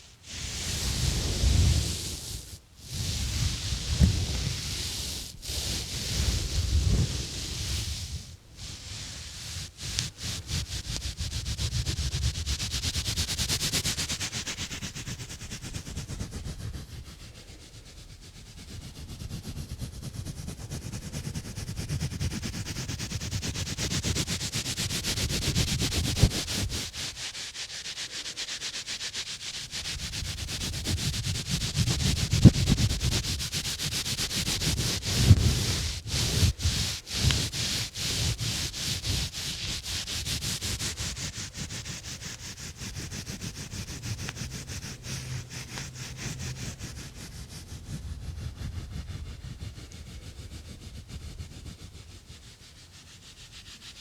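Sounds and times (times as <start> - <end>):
gloves scratching on microphone: 0.5 - 17.2, 18.5 - 54.0.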